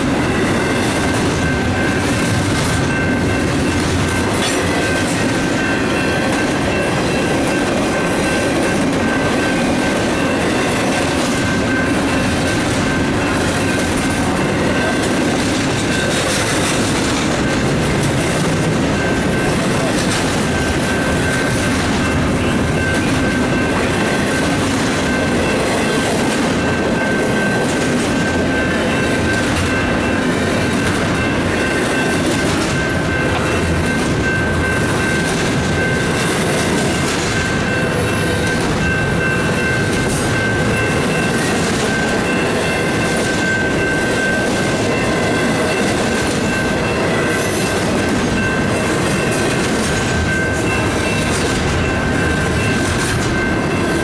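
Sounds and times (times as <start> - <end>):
freight train wheels clattering: 0.0 - 54.0
steady high-pitched tone: 0.0 - 54.0.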